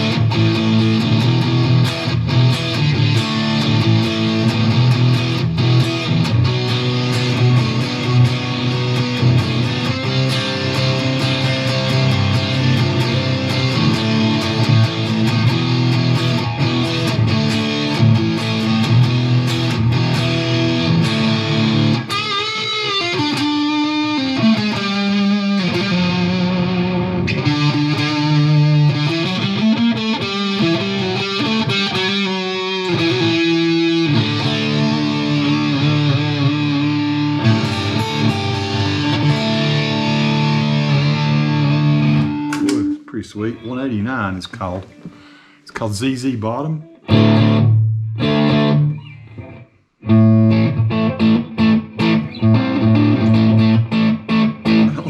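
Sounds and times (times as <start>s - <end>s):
electric guitar playing: 0.0s - 45.5s, 46.4s - 55.0s.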